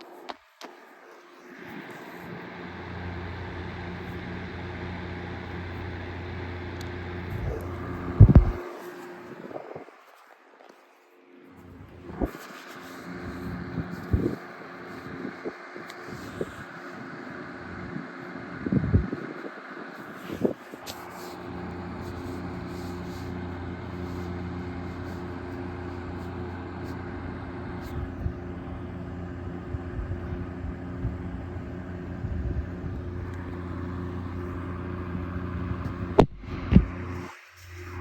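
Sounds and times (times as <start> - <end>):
low mechanical drone: 0.0 - 38.0.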